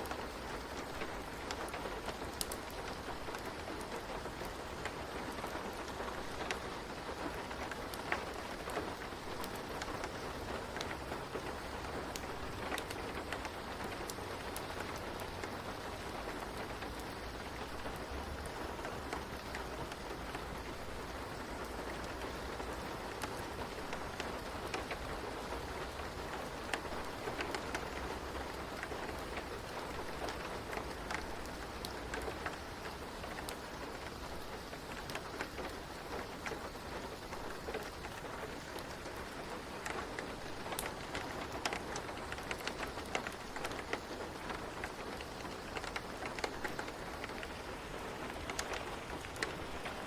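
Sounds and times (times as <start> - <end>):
rain pattering: 0.0 - 50.0.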